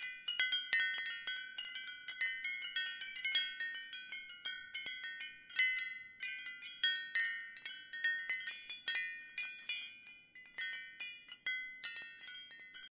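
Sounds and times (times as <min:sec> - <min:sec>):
wind chimes ringing: 0:00.0 - 0:12.9.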